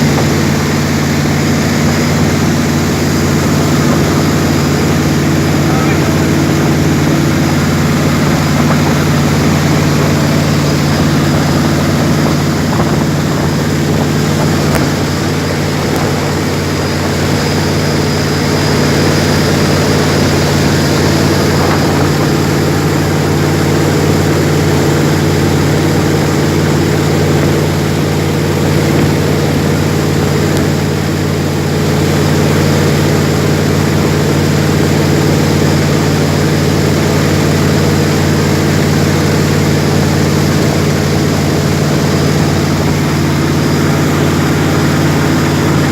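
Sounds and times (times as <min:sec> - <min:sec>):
jet boat engine running: 0:00.0 - 0:45.9
rushing noise: 0:00.0 - 0:45.9.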